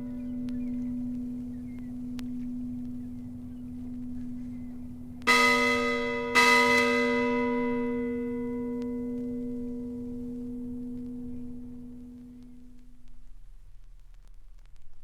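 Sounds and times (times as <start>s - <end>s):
large bell ringing: 0.0s - 12.8s
low hum: 0.0s - 15.0s.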